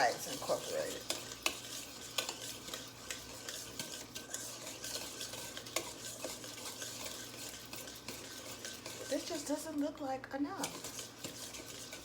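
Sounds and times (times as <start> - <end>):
whisk clicking against bowl: 0.0 - 12.0.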